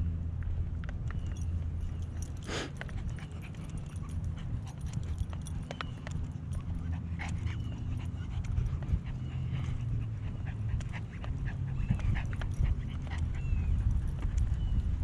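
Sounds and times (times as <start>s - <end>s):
footsteps on asphalt: 0.3s - 15.0s
dog panting: 2.0s - 15.0s.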